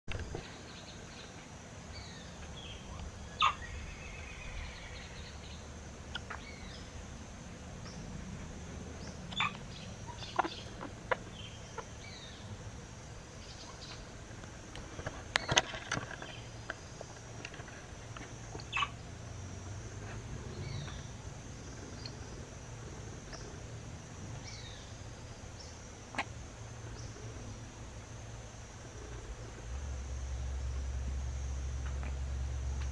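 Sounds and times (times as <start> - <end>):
steady high hiss: 0.1 - 32.9.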